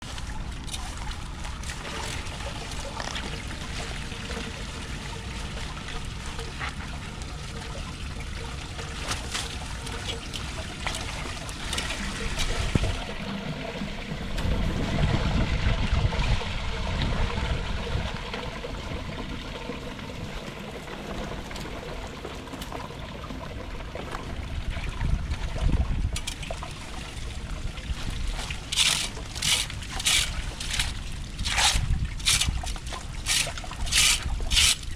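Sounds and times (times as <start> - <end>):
water trickling and sloshing: 0.0 - 34.9.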